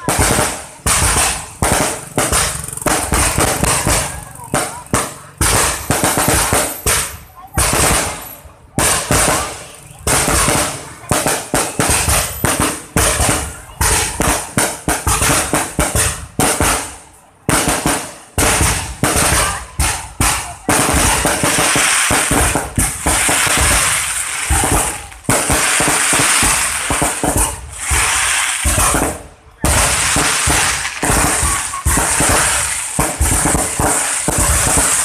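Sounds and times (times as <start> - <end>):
firework bangs: 0.0 - 35.0
firework crackling: 0.0 - 35.0.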